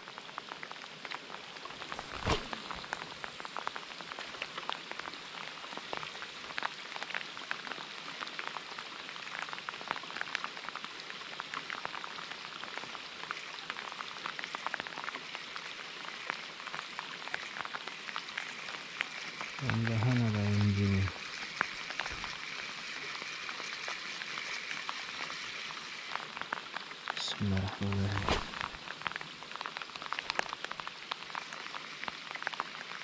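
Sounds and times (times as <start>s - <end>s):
rain falling steadily: 0.0s - 33.0s.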